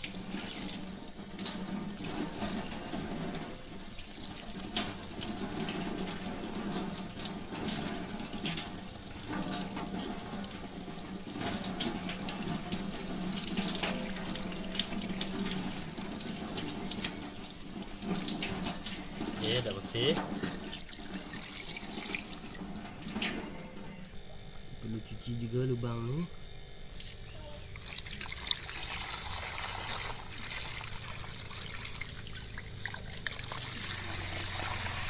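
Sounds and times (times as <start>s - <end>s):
tap water splashing into sink: 0.0s - 24.1s, 27.8s - 35.0s.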